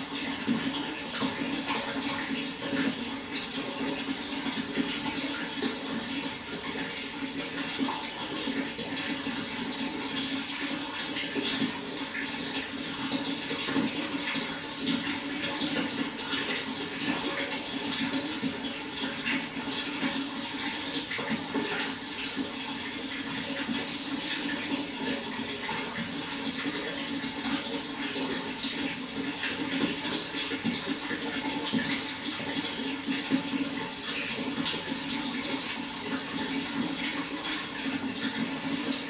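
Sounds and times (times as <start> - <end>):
water flowing with splashes: 0.0 - 39.0.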